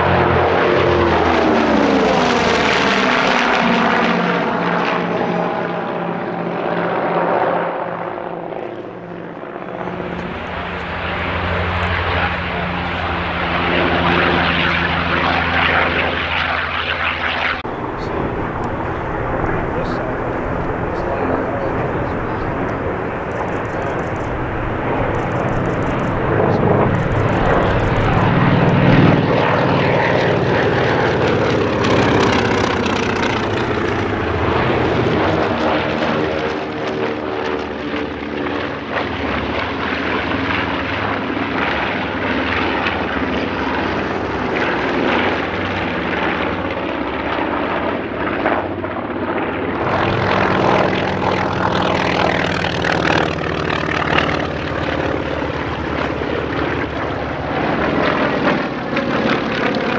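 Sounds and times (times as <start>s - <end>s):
propeller aircraft engines droning: 0.0s - 59.9s.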